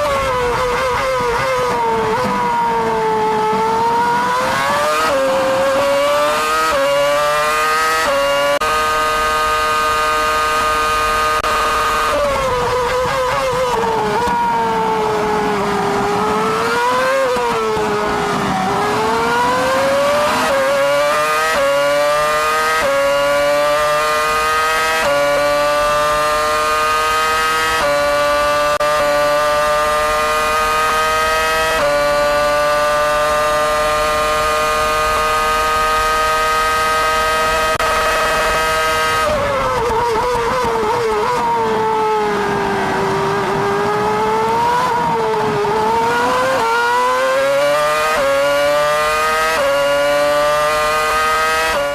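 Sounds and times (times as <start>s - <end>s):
racing car engine upshifting: 0.0s - 51.9s.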